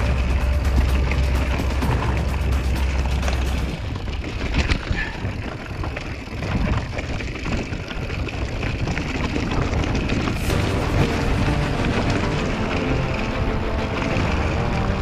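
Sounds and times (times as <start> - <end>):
bike knocking and rattling: 0.0 - 13.3
bike tyres on rocky trail: 0.0 - 15.0.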